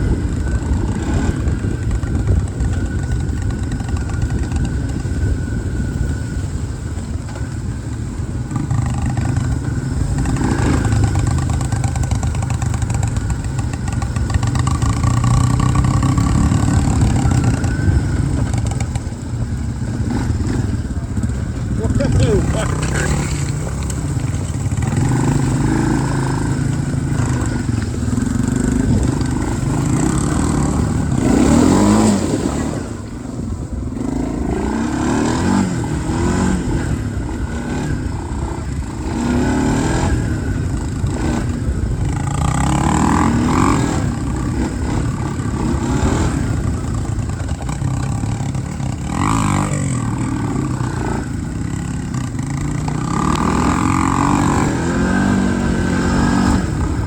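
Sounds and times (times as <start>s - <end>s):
atv engines revving: 0.0s - 57.0s.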